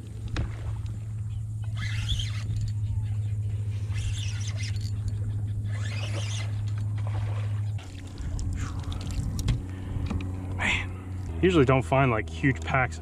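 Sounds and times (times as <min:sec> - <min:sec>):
electric motor humming: 0:01.0 - 0:12.8.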